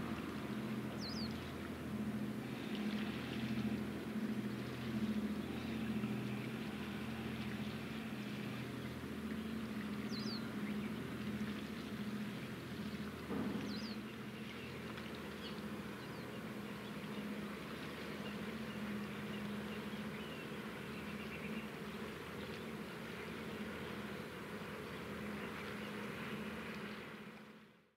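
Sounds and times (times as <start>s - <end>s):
boat engine drone: 0.0s - 27.9s.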